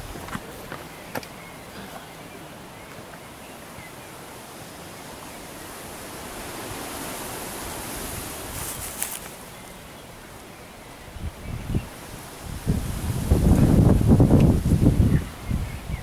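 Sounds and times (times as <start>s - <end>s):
rushing wind: 0.0s - 16.0s.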